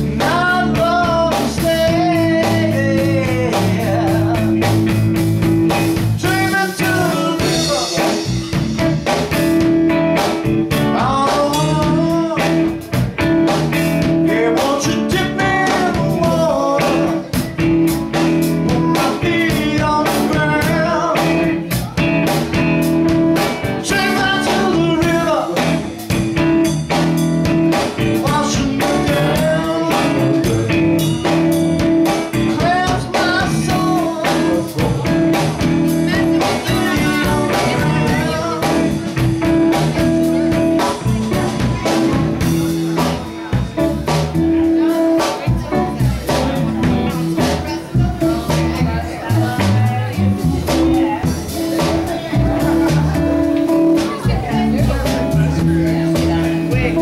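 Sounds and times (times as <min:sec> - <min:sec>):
bass guitar: 0:00.0 - 0:57.0
drum kit hits: 0:00.0 - 0:57.0
electric guitars: 0:00.0 - 0:57.0.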